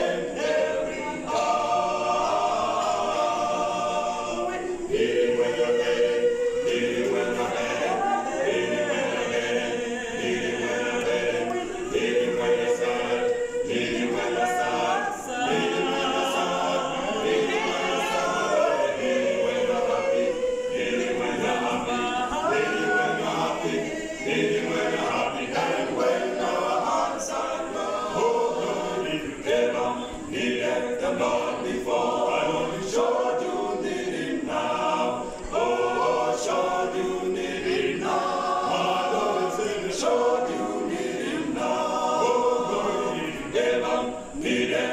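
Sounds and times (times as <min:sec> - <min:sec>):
male vocal group singing a cappella: 0:00.0 - 0:44.9.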